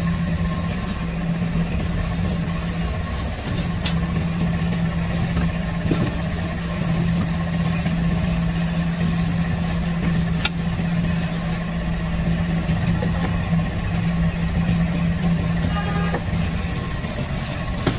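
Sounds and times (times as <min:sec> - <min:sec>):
machinery humming: 0:00.0 - 0:17.9.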